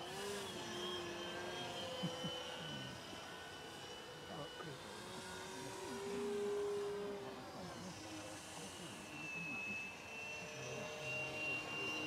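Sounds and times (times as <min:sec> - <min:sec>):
model plane motor whine: 0:00.0 - 0:12.0.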